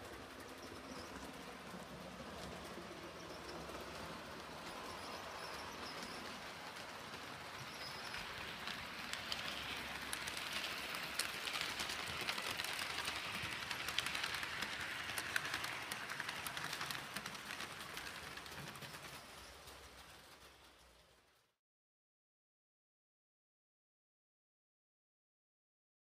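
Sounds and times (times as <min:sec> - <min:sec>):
wheels clicking on rails: 0:00.0 - 0:21.5
model train rolling whir: 0:00.0 - 0:21.6.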